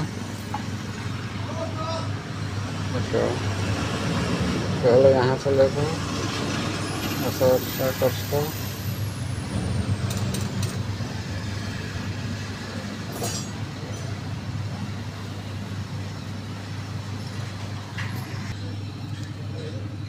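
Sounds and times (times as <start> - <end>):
motor vehicles rumbling: 0.0 - 20.0.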